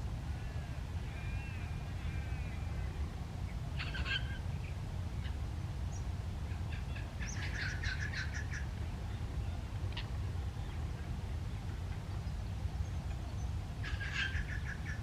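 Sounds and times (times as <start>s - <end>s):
songbirds chattering and singing: 0.4s - 15.0s.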